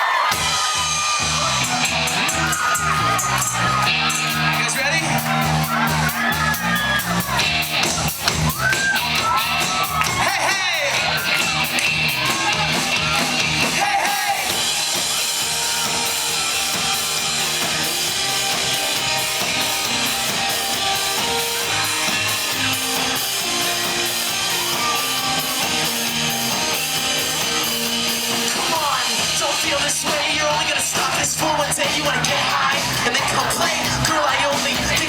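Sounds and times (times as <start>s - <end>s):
crowd noise: 0.0s - 35.0s
live rock band playing: 0.1s - 35.0s.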